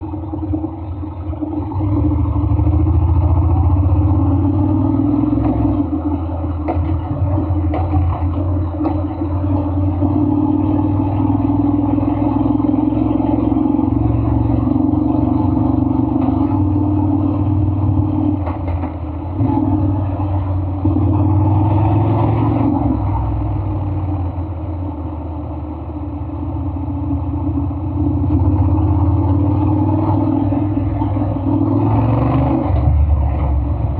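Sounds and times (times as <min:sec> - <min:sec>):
scooter engine running: 0:00.0 - 0:33.9.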